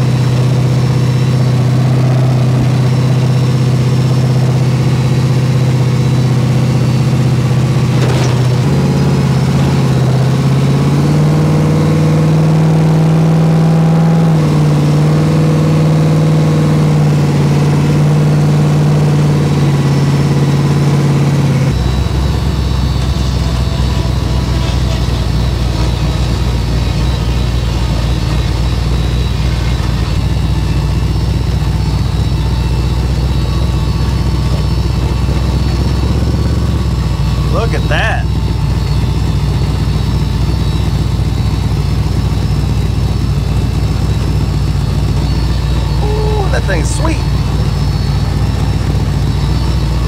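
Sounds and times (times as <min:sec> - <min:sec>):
truck engine running: 0:00.0 - 0:50.0.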